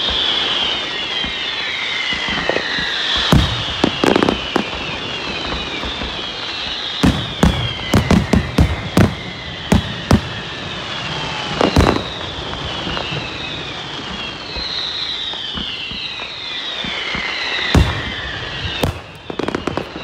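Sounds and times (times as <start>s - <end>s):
firework bangs: 0.0s - 20.0s
firework whistles falling in pitch: 0.0s - 20.0s.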